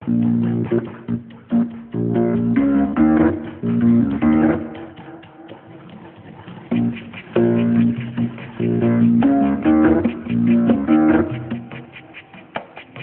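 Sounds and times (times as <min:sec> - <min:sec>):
instrumental music: 0:00.0 - 0:13.0.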